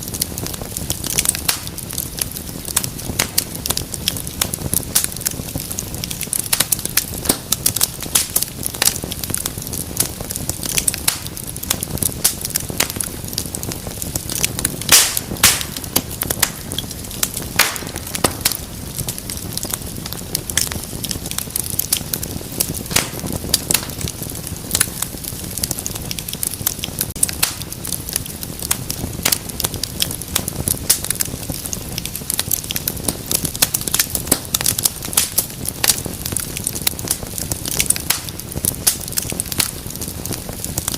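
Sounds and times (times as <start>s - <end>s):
fire crackling and popping: 0.0s - 40.9s
low rumble of burning: 0.0s - 40.9s.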